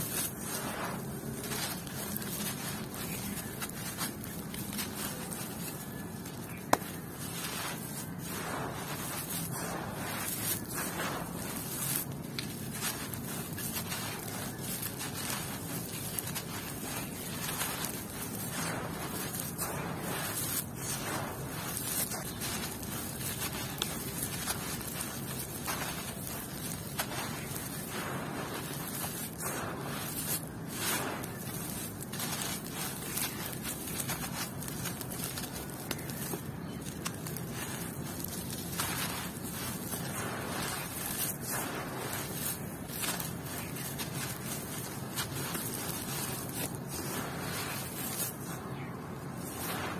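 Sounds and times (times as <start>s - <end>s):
dry dirt and gravel crumbling: 0.0s - 49.9s
falling grains ticking: 0.0s - 49.9s
short hissing bursts: 0.0s - 49.9s.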